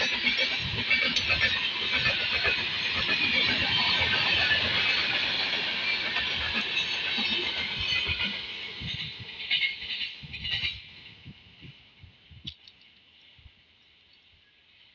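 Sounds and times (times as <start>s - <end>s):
train passing at speed: 0.0s - 12.4s.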